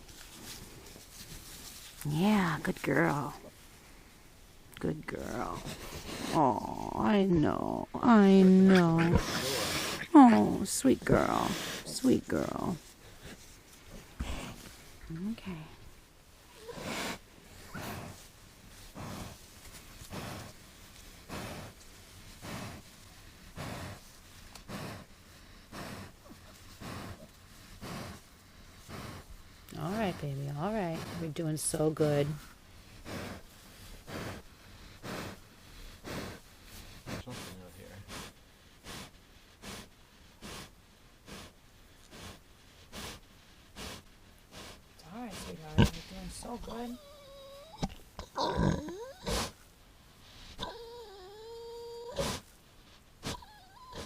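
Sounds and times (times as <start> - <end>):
sow breathing heavily: 5.2 - 15.0, 16.6 - 47.7, 48.6 - 54.0.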